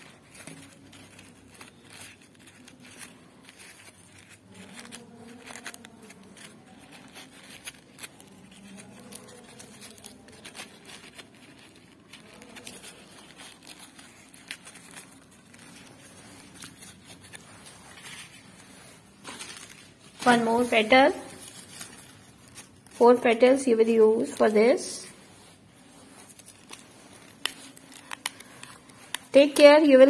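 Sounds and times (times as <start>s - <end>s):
paper rustling and crinkling: 0.0s - 30.0s.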